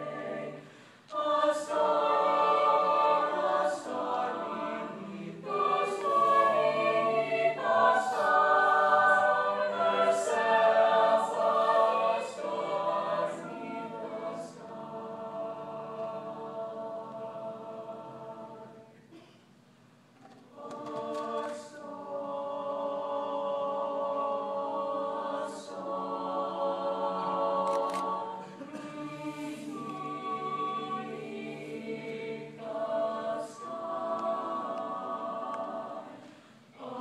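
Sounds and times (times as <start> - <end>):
mixed choir singing chords: 0.0 - 19.0, 20.5 - 37.0.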